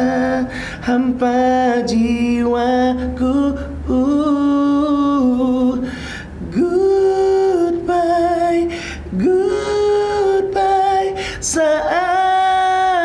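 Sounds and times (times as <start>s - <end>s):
man singing a cappella: 0.0s - 13.0s.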